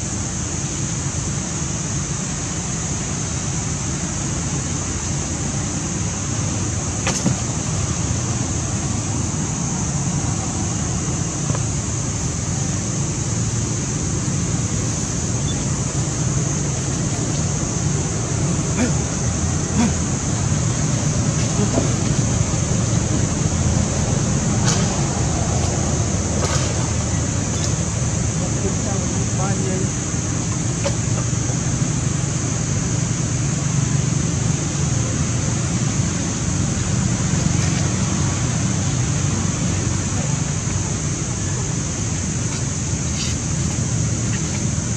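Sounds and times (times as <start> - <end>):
high hiss: 0.0 - 44.9.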